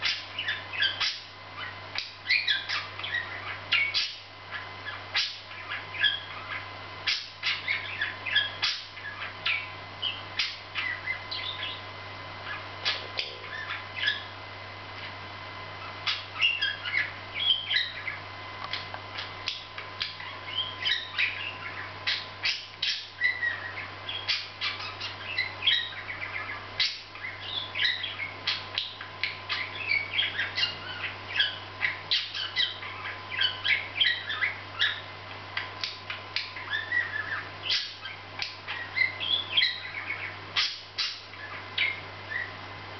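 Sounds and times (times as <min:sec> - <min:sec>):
budgerigars chattering: 0:00.0 - 0:14.4, 0:15.8 - 0:35.1, 0:35.8 - 0:42.6
faint electrical hum: 0:00.0 - 0:42.9.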